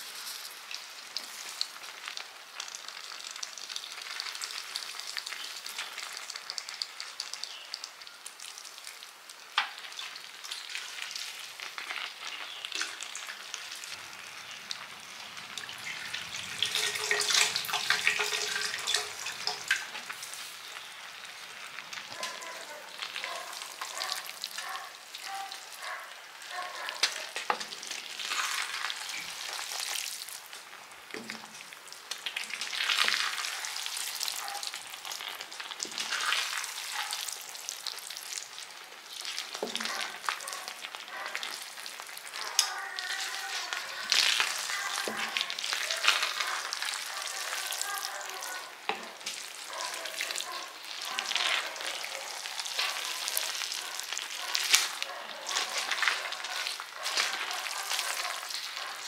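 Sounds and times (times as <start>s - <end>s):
food sizzling in a hot pan: 0.0s - 59.0s
wet stirring noises: 0.0s - 59.0s.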